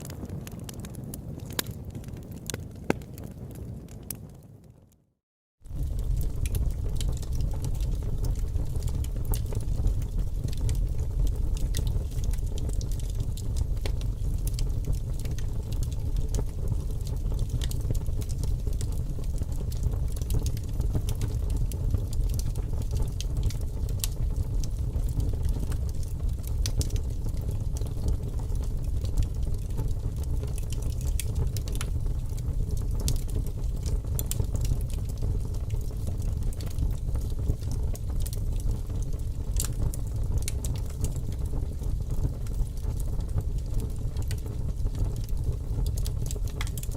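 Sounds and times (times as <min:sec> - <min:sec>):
fire popping and crackling: 0:00.0 - 0:46.9
low rumble of flames: 0:00.0 - 0:46.9.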